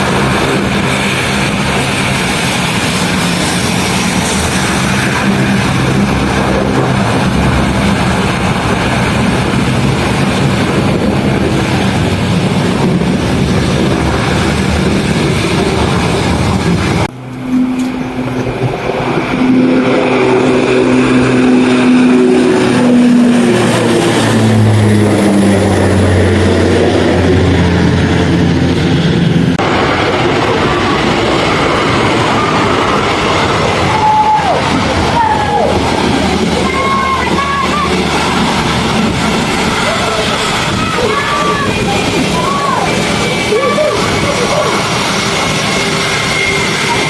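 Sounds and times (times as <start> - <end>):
aircraft engine falling pitch: 0.0 - 47.0
aircraft engines running: 0.0 - 47.0.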